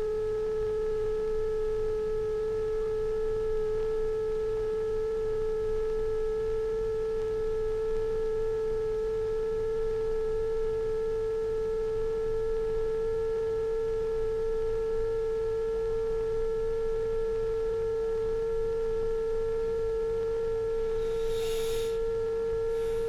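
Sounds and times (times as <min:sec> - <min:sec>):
electronic sine-wave tone: 0:00.0 - 0:23.0
faint higher steady tones: 0:00.0 - 0:23.0.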